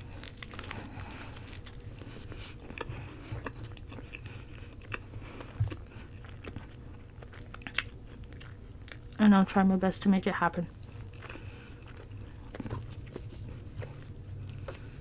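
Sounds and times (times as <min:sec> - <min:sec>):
chewing bread: 0:00.0 - 0:09.6, 0:10.7 - 0:15.0.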